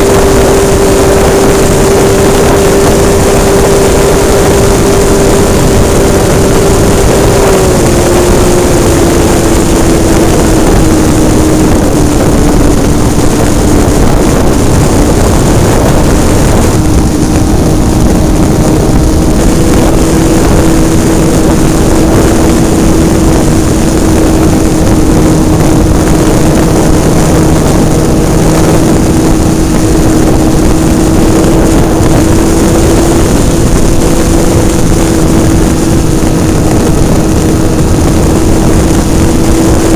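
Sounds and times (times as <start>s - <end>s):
model airplane engine running: 0.0s - 39.9s
wind rushing over microphone: 0.0s - 39.9s.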